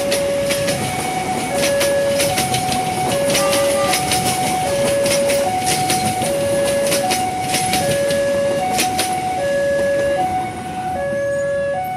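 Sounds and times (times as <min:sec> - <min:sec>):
train wheels clicking over rail joints: 0:00.0 - 0:10.4
two-tone crossing alarm: 0:00.0 - 0:11.9.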